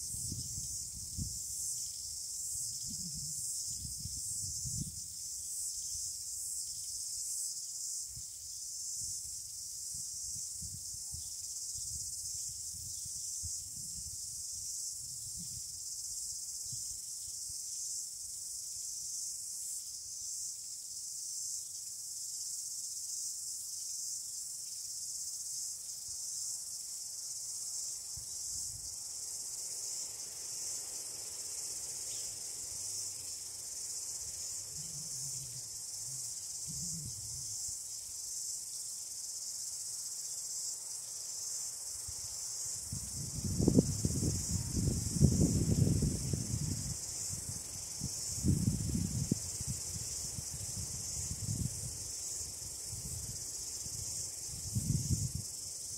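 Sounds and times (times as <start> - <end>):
insects chirping: 0.0 - 55.9.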